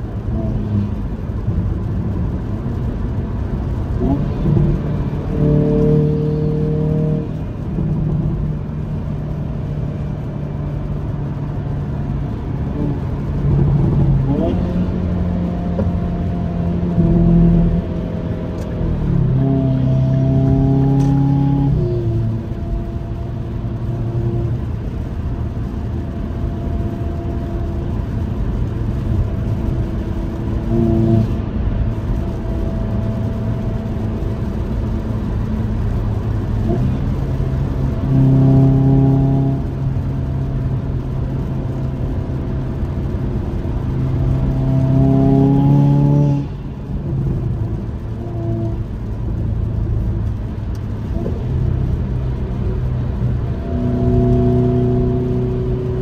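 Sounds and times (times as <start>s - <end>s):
car engine from inside cabin: 0.0s - 56.0s
road noise: 0.0s - 56.0s.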